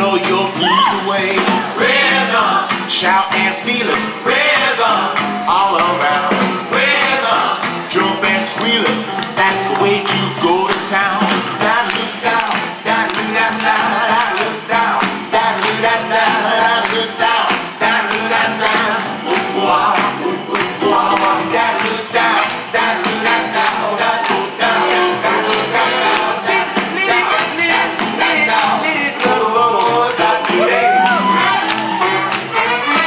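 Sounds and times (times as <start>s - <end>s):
up-tempo swing music: 0.0s - 33.0s.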